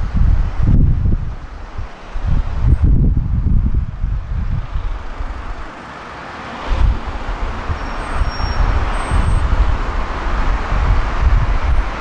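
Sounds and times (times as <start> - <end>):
wind buffeting microphone: 0.0 - 5.8, 6.5 - 12.0
street traffic passing: 0.0 - 12.0.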